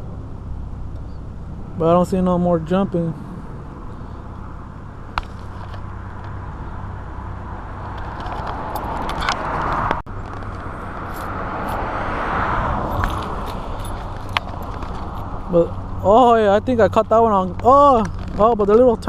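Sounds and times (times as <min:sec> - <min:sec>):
low traffic rumble: 0:00.0 - 0:19.0
vehicles passing: 0:00.0 - 0:19.0.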